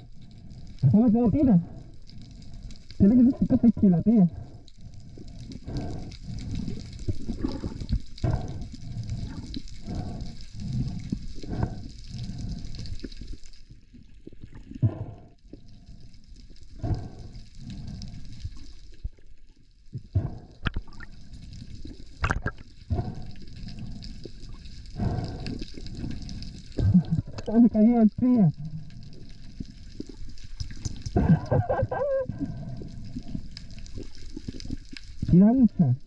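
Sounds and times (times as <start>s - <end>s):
water sloshing and gurgling: 0.0s - 36.0s.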